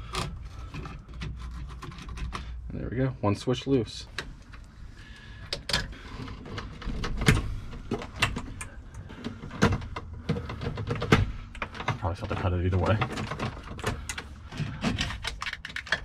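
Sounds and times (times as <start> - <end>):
plastic and metal parts clicking: 0.0 - 2.6, 5.4 - 16.0.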